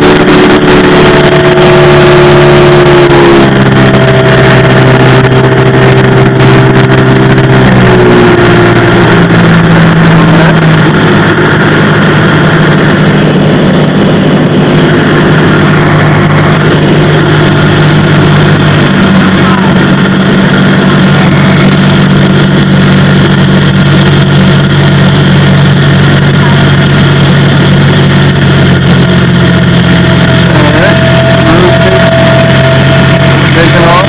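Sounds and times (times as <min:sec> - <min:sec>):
light aircraft engine droning: 0:00.0 - 0:34.0
steady high tone: 0:00.0 - 0:34.0.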